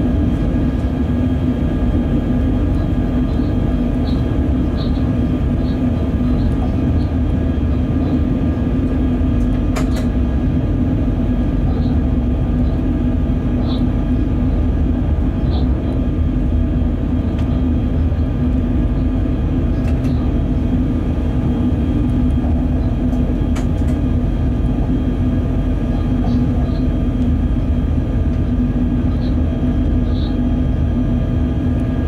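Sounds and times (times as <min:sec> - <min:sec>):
constant hum: 0:00.0 - 0:32.0
wheels rumbling on rail: 0:00.0 - 0:32.0.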